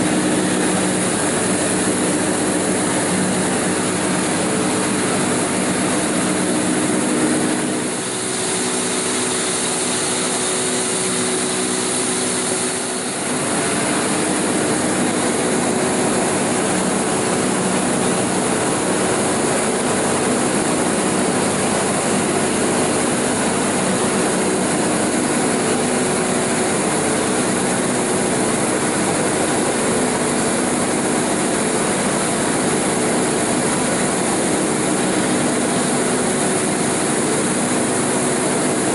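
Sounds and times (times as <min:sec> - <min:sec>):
saw machine running: 0:00.0 - 0:38.9.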